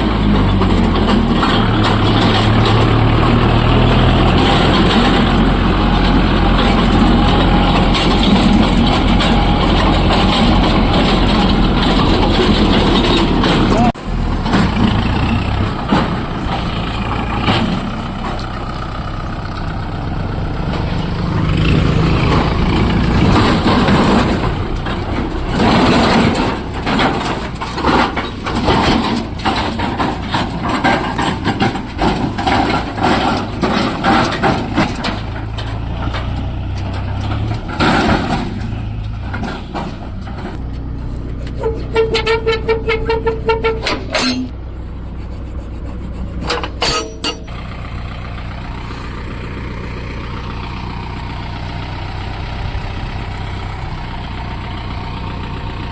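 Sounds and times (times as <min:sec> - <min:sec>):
knocks and rattles: 0:00.0 - 0:19.8, 0:20.5 - 0:44.6, 0:46.3 - 0:48.6
tractor diesel engine running: 0:00.0 - 0:55.9.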